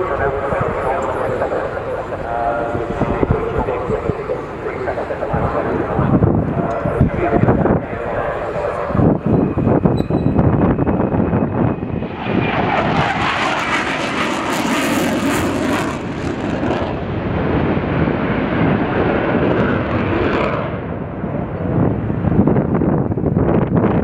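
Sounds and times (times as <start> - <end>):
fighter jet roaring overhead: 0.0 - 24.0.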